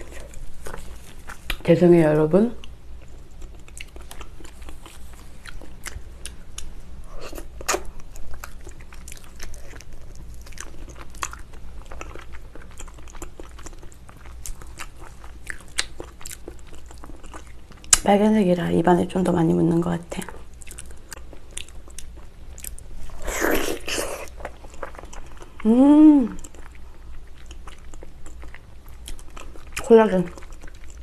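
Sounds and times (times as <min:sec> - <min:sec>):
close chewing and biting: 0:02.6 - 0:18.0, 0:20.5 - 0:25.6, 0:26.4 - 0:31.0.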